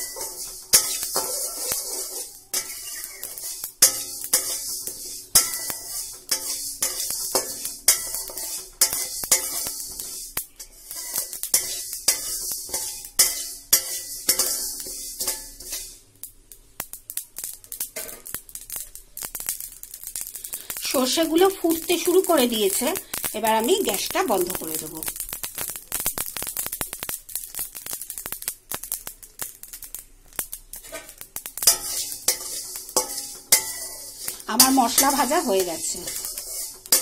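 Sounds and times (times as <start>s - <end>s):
mustard seeds popping: 0.0s - 37.0s
seeds rattling and hissing: 0.0s - 37.0s
spatula scraping seeds in pan: 0.0s - 37.0s.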